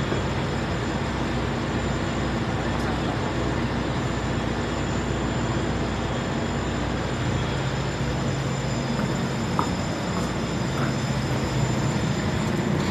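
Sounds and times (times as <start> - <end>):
faint high whine: 0.0 - 12.9
ship machinery humming: 0.0 - 12.9.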